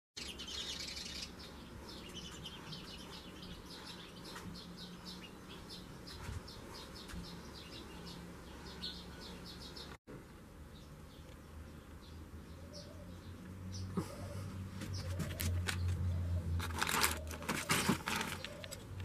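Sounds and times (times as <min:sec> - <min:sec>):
small birds chirping: 0:00.2 - 0:19.0.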